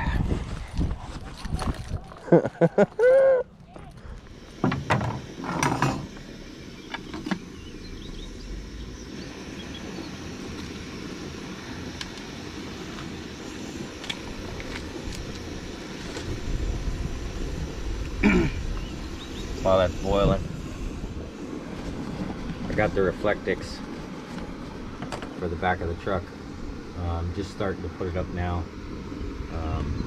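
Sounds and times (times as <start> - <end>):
gas stove burner rushing: 4.0 - 30.0.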